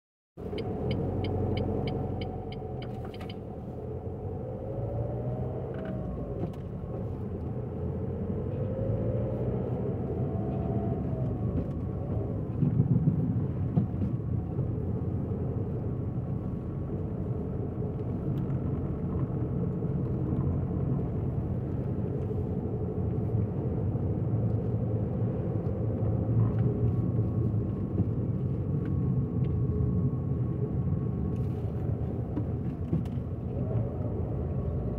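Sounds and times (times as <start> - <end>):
car engine and road rumble: 0.4 - 34.9.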